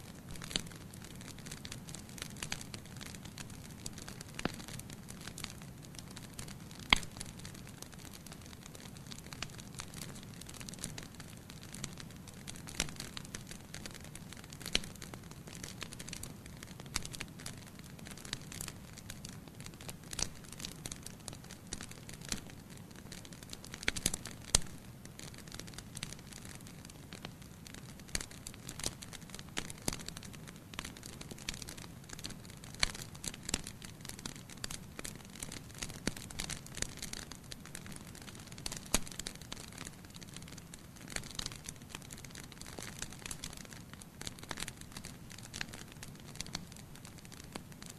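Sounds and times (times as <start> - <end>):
fire crackling and popping: 0.0 - 47.9.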